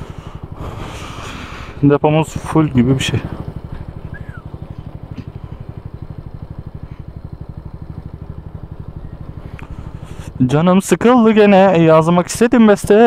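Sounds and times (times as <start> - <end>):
moped engine pulsing: 0.0 - 13.0.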